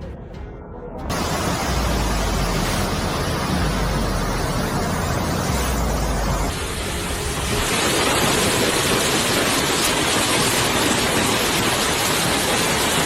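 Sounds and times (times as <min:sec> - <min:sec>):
water rushing: 0:01.1 - 0:13.0.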